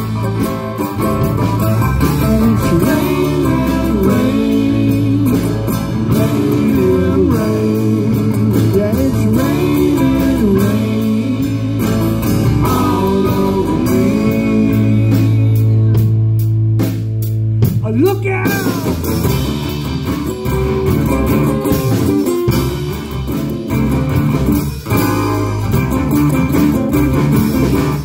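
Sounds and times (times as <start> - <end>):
acoustic guitars: 0.0 - 28.0
bass guitar: 0.0 - 28.0.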